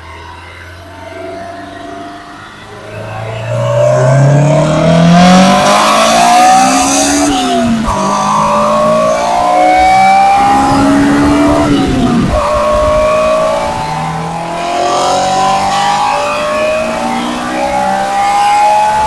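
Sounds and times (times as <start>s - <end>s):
car engine accelerating at full throttle: 0.0s - 19.0s.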